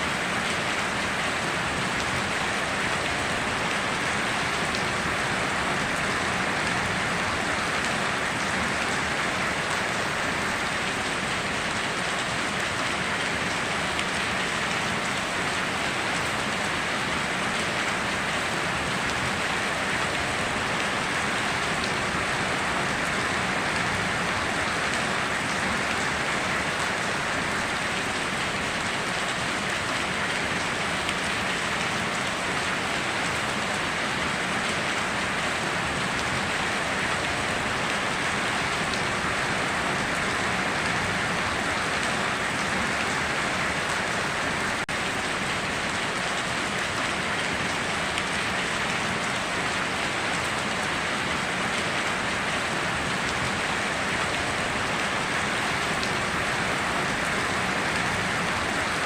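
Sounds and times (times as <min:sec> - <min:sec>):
steady rain downpour: 0:00.0 - 0:59.0.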